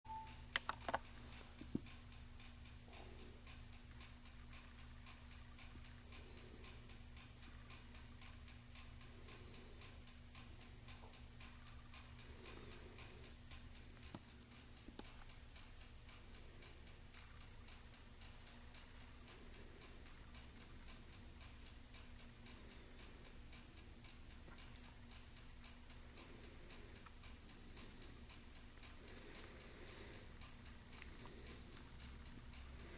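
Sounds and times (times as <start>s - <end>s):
clock ticking: 0.1s - 32.9s
low steady hum: 0.1s - 32.9s.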